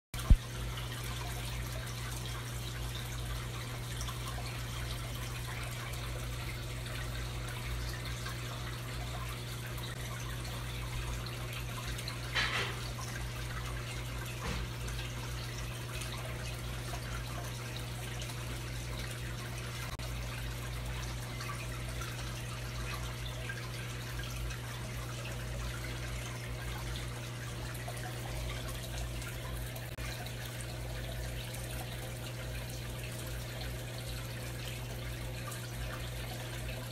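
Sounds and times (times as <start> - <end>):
low pump hum: 0.2 - 36.9
water trickling into tank: 0.2 - 36.9.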